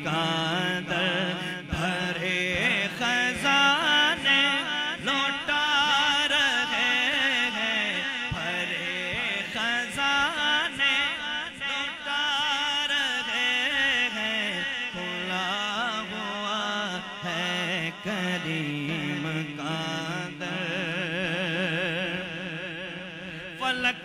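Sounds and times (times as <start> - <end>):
man singing into microphone: 0.0 - 24.0.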